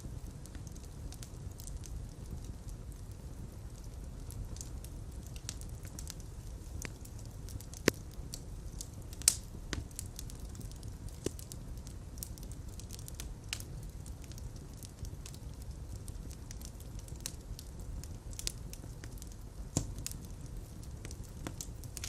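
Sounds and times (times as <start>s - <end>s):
fire crackles and pops: 0.0s - 22.0s
fire flames rumbling: 0.0s - 22.0s.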